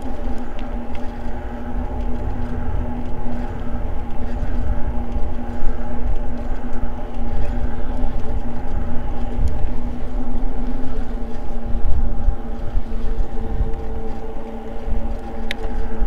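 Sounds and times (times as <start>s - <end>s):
electric bike humming: 0.0s - 16.0s
wind rushing over microphone: 0.0s - 16.0s.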